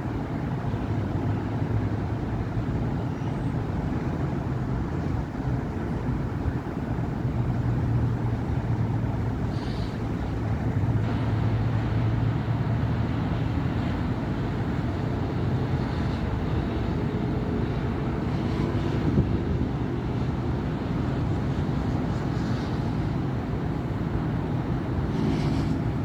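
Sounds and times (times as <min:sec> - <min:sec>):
cars and buses passing: 0:00.0 - 0:26.0
low engine hum: 0:00.0 - 0:26.0.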